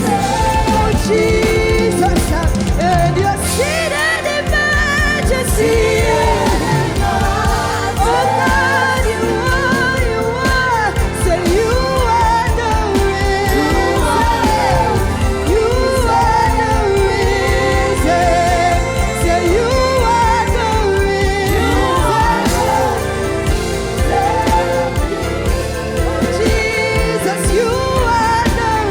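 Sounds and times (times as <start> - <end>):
band accompaniment: 0.0 - 28.9
people singing with vibrato: 0.0 - 28.9.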